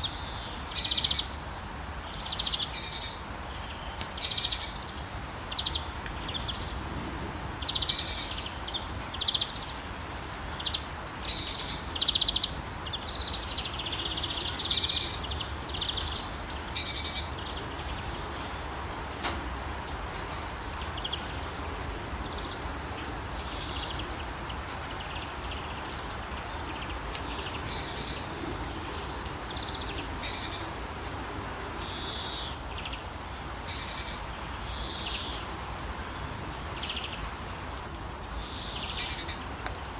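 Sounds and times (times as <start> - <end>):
hiss of falling rain: 0.0 - 39.9
small birds chirping: 0.0 - 39.9.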